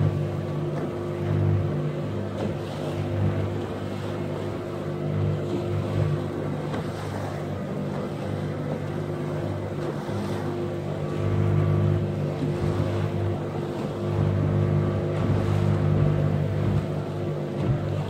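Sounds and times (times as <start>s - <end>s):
motorboat engine humming: 0.0s - 18.0s
water rushing against hull: 0.0s - 18.0s.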